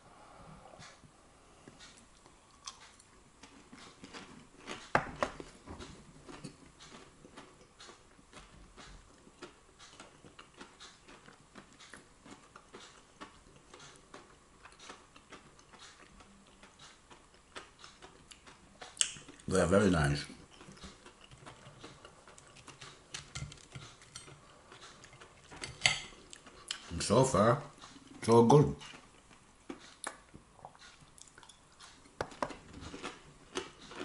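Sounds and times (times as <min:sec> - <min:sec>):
person chewing: 0:01.6 - 0:27.0, 0:27.6 - 0:34.0.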